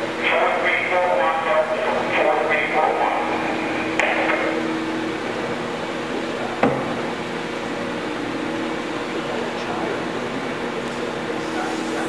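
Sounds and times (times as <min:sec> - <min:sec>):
steady shop hum: 0:00.0 - 0:12.0.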